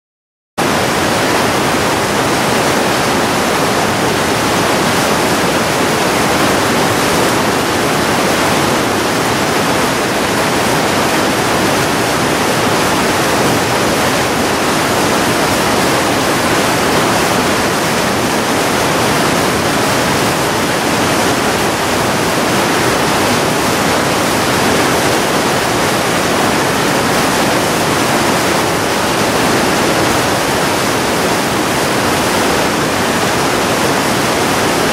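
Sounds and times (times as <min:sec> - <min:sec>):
fast-flowing creek rushing: 0:00.6 - 0:34.9.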